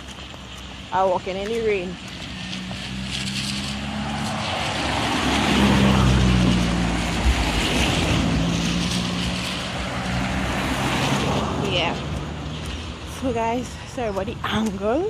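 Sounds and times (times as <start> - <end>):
steady rain: 0.0 - 15.0
vehicle passing on wet road: 0.0 - 15.0
wind noise on microphone: 0.0 - 15.0.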